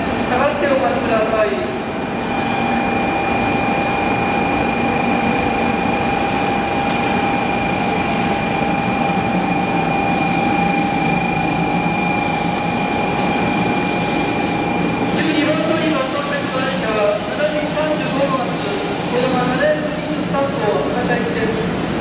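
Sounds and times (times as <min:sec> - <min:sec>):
train high whine: 0:00.0 - 0:22.0.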